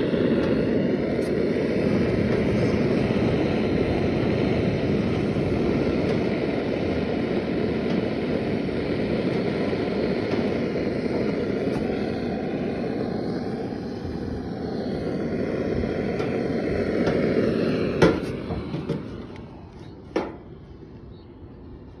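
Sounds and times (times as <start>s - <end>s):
gas burner roaring hiss: 0.0s - 22.0s.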